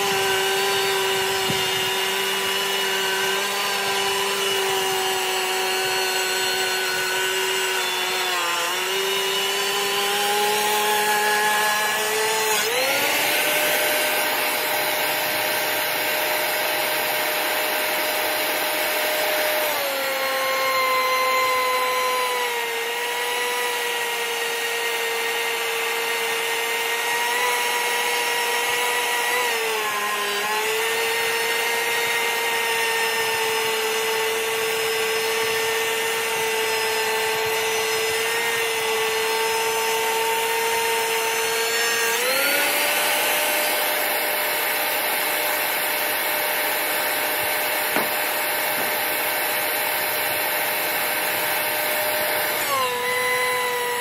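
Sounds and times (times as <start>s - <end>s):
thickness planer motor whine: 0.0s - 54.0s.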